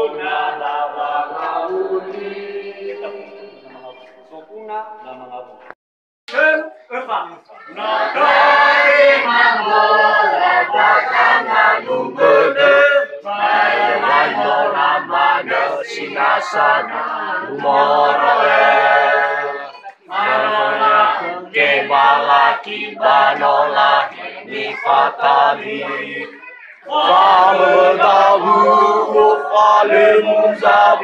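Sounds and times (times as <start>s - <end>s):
group singing a chant: 0.0s - 5.6s, 7.6s - 31.0s.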